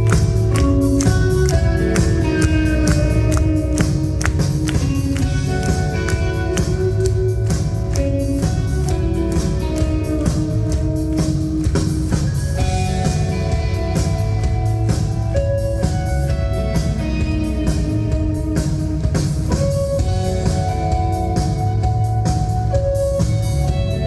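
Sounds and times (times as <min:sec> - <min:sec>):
drum kit beat: 0:00.0 - 0:24.0
guitars playing held notes: 0:00.0 - 0:24.0.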